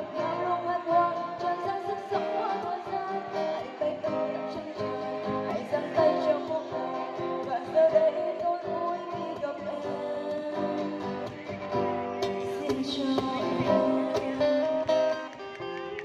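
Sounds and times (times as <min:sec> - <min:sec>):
woman singing through microphone: 0:00.0 - 0:15.3
cajon beat: 0:00.0 - 0:16.0
strummed acoustic guitar: 0:00.0 - 0:16.0.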